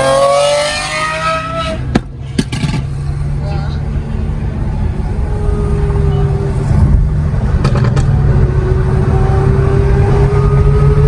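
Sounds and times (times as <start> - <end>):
sports car engine accelerating hard: 0.0 - 1.9, 3.3 - 11.0.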